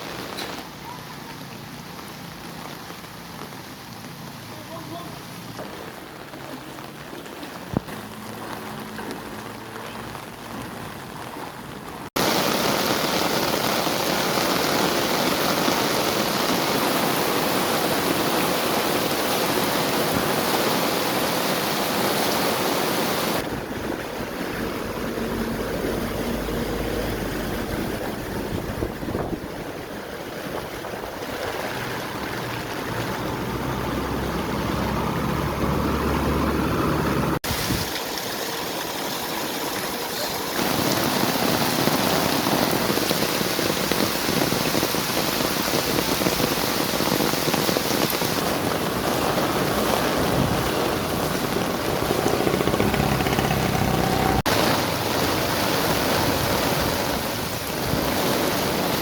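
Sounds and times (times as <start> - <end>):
floodwater rushing: 0.0 - 59.0
heavy rain: 0.0 - 59.0.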